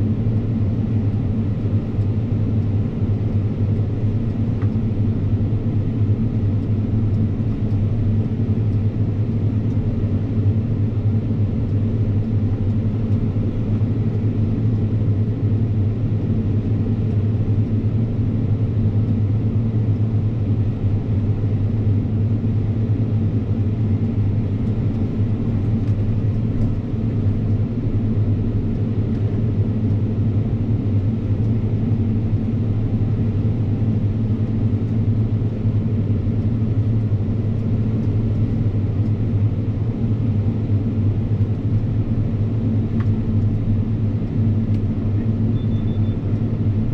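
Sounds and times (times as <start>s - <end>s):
tractor engine drone: 0.0s - 46.9s.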